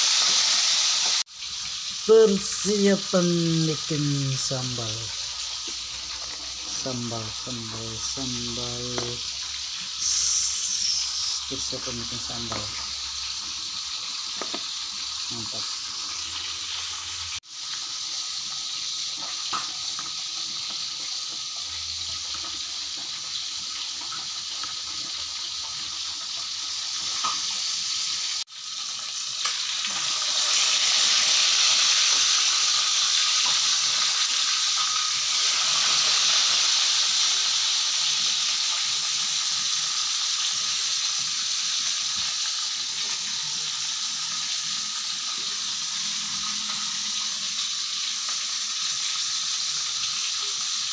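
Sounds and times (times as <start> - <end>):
fish sizzling in hot oil: 0.0 - 50.9.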